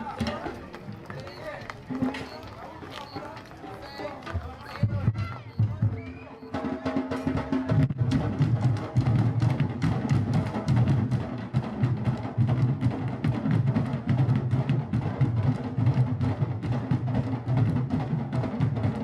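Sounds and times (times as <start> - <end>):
drums played with hand and stick: 0.0 - 1.1, 3.2 - 19.0.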